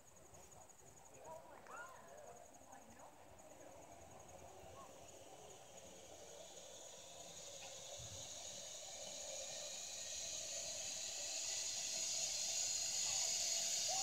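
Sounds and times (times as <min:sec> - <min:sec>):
zip line trolley whirring: 0:00.6 - 0:14.0.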